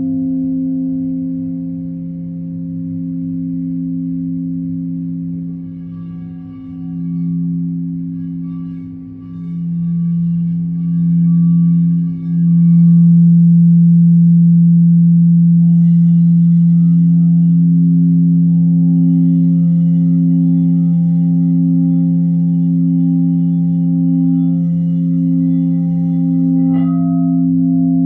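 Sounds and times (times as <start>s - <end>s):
low ringing drone: 0.0s - 28.0s.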